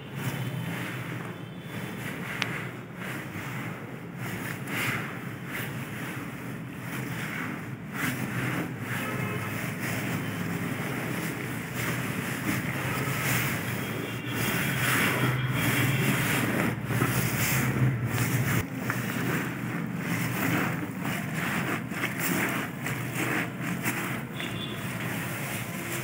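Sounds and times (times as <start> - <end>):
wet fabric sloshing in bucket: 0.0 - 26.0.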